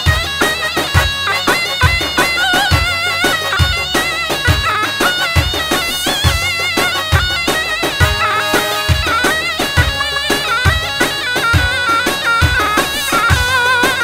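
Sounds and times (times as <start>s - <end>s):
heavy drum beat: 0.0s - 14.0s
reedy wind instrument melody: 0.0s - 14.0s.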